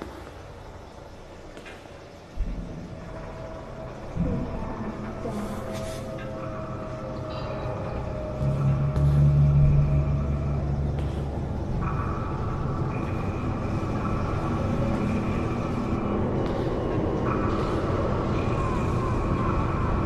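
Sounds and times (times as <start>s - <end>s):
high eerie drone tones: 0.0s - 20.0s
low rumble with hum: 2.4s - 20.0s.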